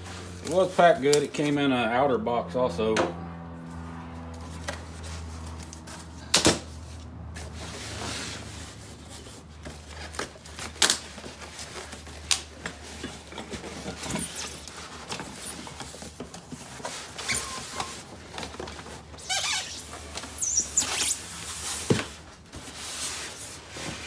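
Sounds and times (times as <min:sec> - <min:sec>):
cardboard box rustling and scraping: 0:04.3 - 0:24.0.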